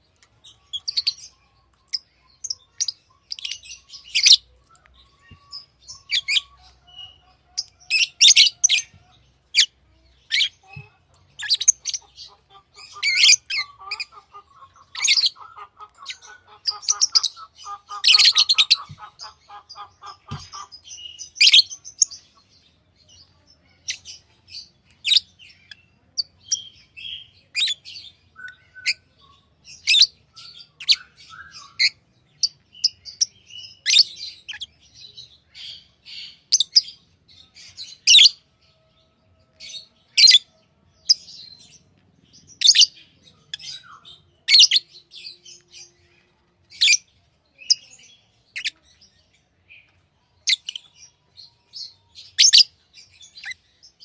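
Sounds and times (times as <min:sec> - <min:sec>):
lovebirds chirping: 0:00.0 - 0:54.0.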